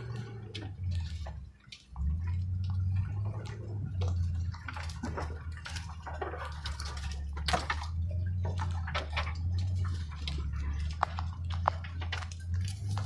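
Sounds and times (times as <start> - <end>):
low engine hum: 0.0 - 13.0
weeds scraping and snapping: 0.0 - 13.0.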